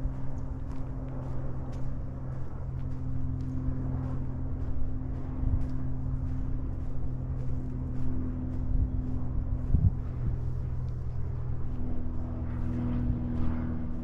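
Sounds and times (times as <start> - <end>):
light footsteps on trail: 0.0 - 14.0
low engine hum: 0.0 - 14.0.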